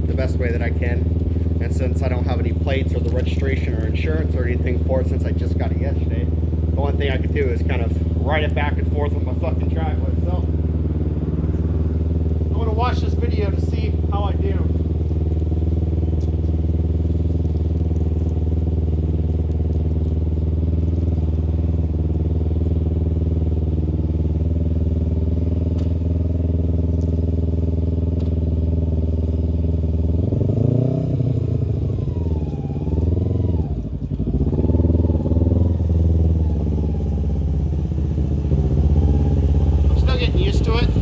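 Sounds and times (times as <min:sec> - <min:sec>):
motorcycle engine idling and revving: 0:00.0 - 0:41.0.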